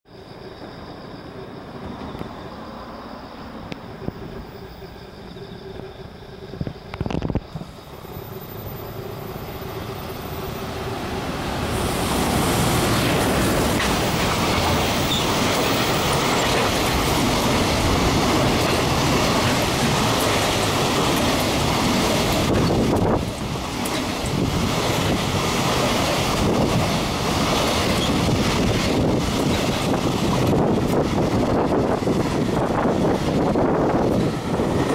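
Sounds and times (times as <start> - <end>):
freight train passing on rails: 0.1 - 34.9.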